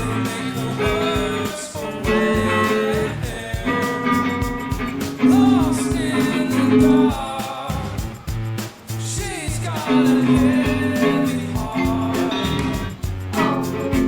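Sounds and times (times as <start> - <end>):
guitar song: 0.0 - 14.0
steady drum beat: 0.0 - 14.0.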